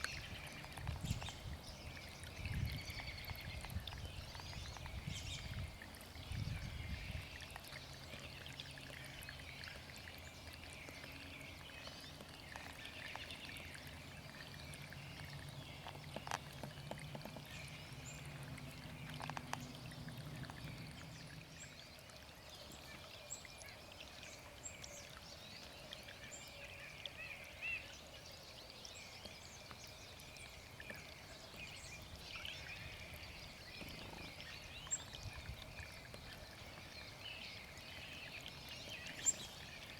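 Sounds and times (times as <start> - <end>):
stream trickling and bubbling: 0.0 - 39.9.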